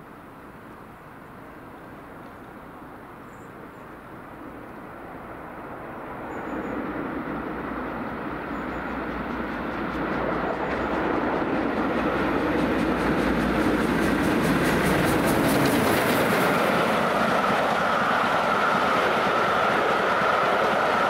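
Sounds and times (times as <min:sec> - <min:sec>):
steam train approaching: 0:00.0 - 0:21.0.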